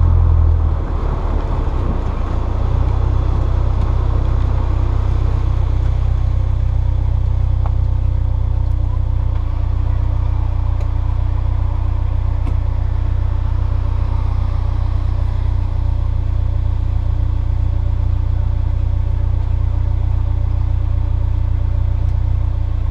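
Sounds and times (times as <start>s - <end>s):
car engine running at low revs: 0.0s - 22.9s.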